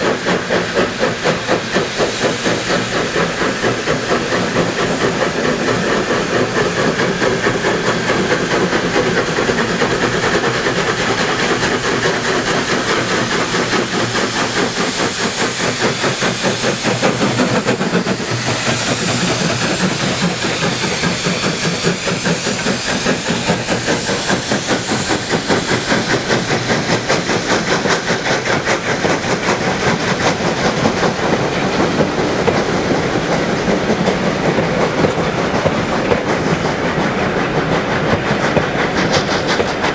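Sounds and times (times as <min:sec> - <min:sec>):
steam hiss: 0:00.0 - 0:39.9
train wheels clicking over rail joints: 0:00.0 - 0:39.9.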